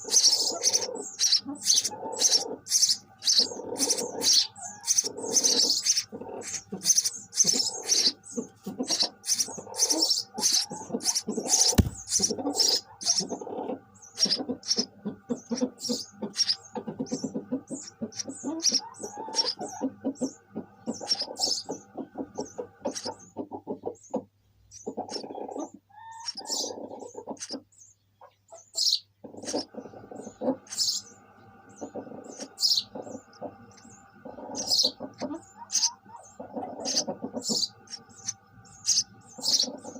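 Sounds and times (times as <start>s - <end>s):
lower rapid bird calls: 0.0s - 39.9s
sparrows chirping: 0.0s - 39.9s.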